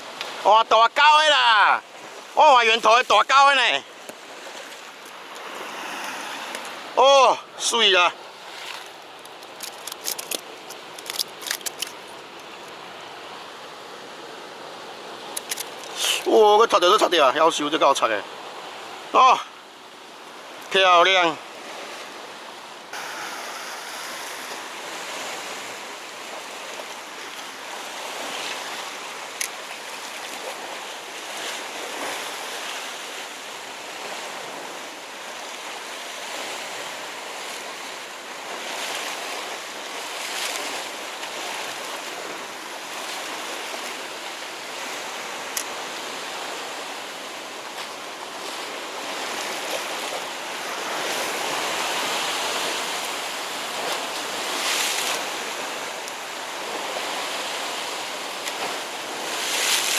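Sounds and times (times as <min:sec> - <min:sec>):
sea waves on rocky shore: 0:00.0 - 0:59.9.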